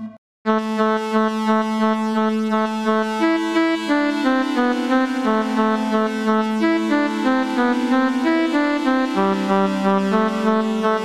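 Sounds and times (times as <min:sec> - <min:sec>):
synthesizer bass note: 0:00.0 - 0:11.0
synthesizer phrase over chords: 0:00.0 - 0:11.0.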